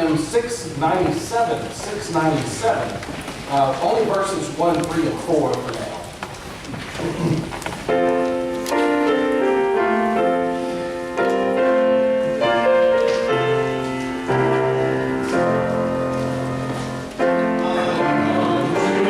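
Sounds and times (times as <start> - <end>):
church keyboard playing held chords: 0.0 - 19.0.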